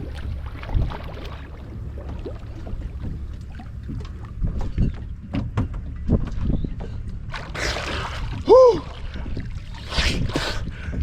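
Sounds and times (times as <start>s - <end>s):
low rumble: 0.0s - 11.0s
water sloshing: 0.0s - 11.0s.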